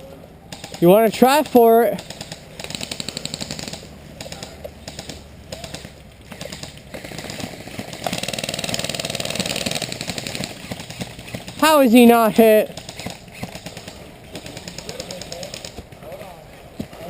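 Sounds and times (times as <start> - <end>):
airsoft gun firing full auto: 0.5 - 15.8.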